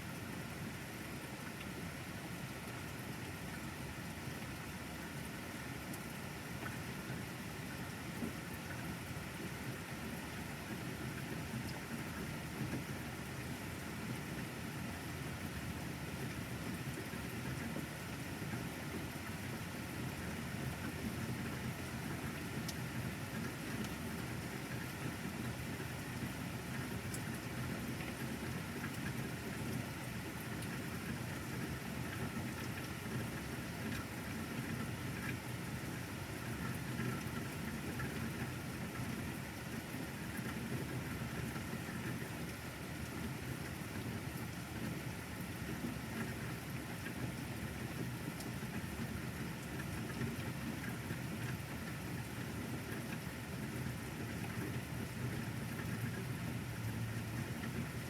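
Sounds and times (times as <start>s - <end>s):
steady rain falling: 0.1s - 58.0s.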